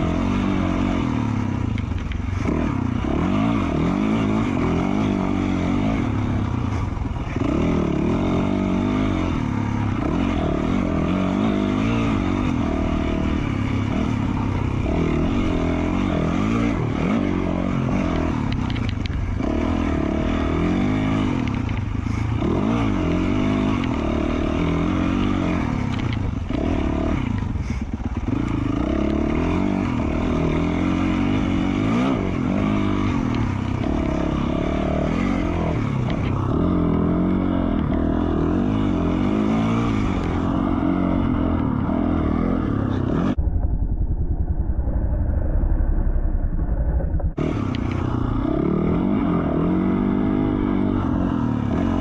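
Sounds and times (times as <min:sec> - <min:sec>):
dirt bike engine revving: 0:00.0 - 0:43.4, 0:46.6 - 0:52.0.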